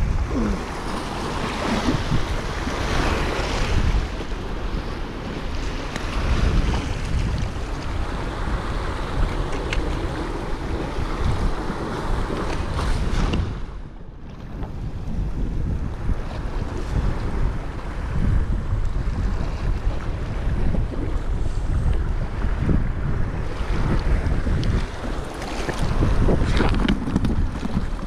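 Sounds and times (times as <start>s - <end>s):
sea waves washing against rocks: 0.0s - 13.8s, 14.4s - 28.0s
wind buffeting microphone: 0.0s - 28.0s.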